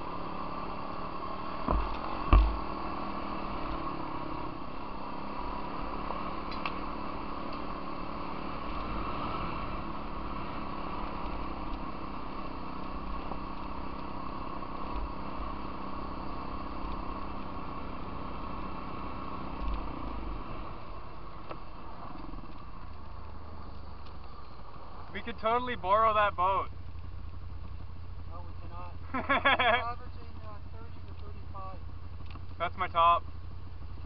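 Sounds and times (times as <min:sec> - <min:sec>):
atv engine running: 0:00.0 - 0:34.0
wind: 0:00.0 - 0:34.0.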